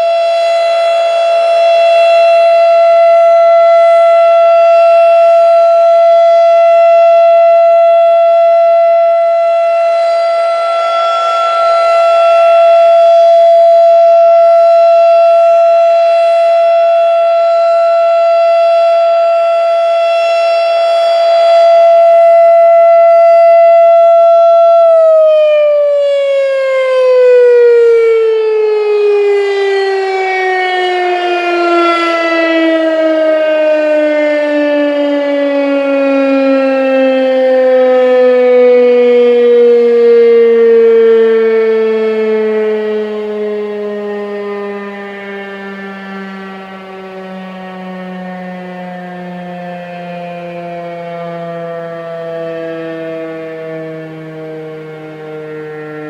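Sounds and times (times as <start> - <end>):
rotating siren steady tone: 0.0 - 56.0
siren winding down: 0.0 - 56.0.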